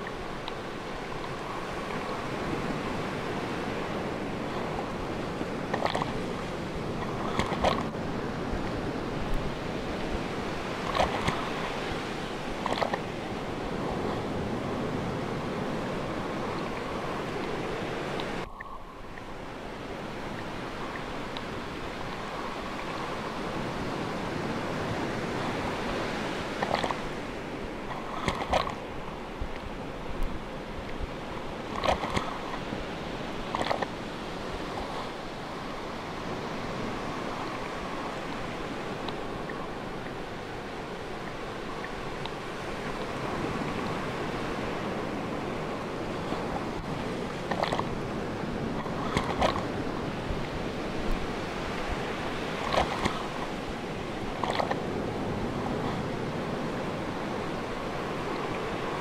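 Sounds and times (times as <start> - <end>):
sea waves and surf: 0.0 - 59.0.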